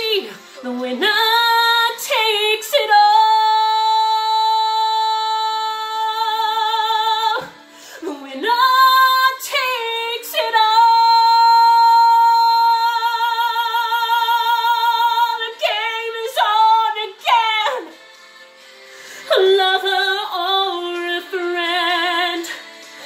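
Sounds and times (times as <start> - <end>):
woman singing with vibrato: 0.0 - 18.0, 19.3 - 22.7.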